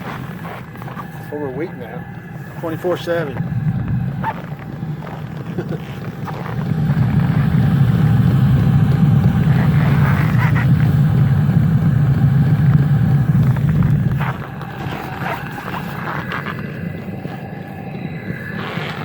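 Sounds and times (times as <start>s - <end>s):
diesel heater low rumble: 0.0s - 19.0s.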